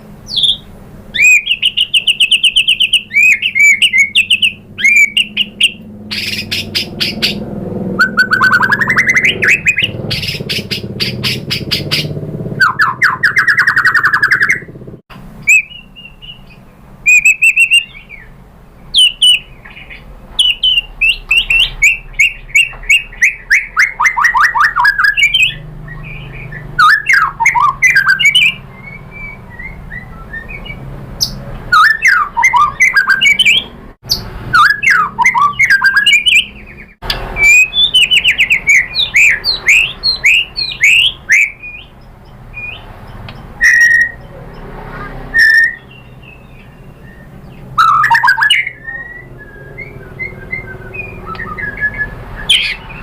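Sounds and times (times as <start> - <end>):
songbird singing varied song: 0.2 - 53.0.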